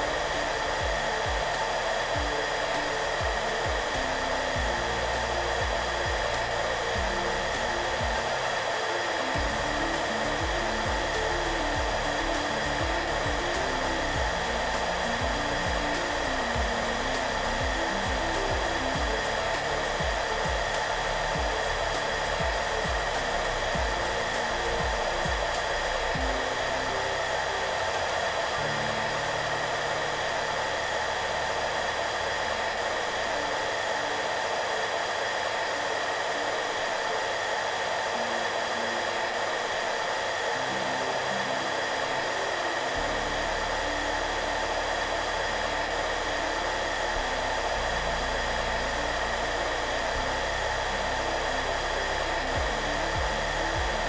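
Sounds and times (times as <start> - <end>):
hair dryer running: 0.0 - 54.0
soft background music: 0.0 - 54.0.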